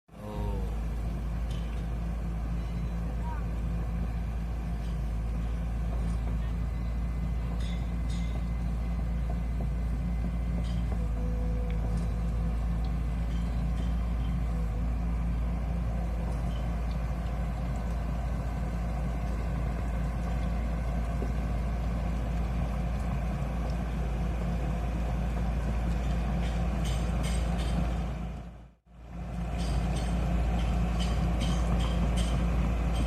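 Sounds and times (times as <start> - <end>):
excavator diesel engine droning: 0.1 - 33.0.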